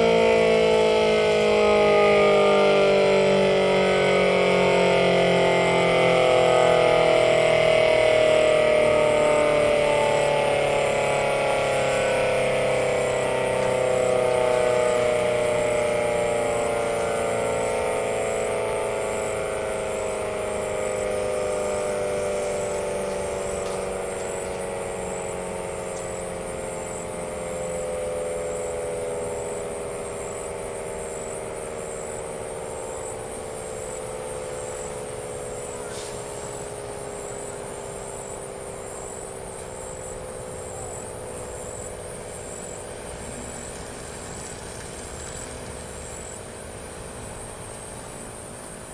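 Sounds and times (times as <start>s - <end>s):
warning siren winding down: 0.0s - 48.9s.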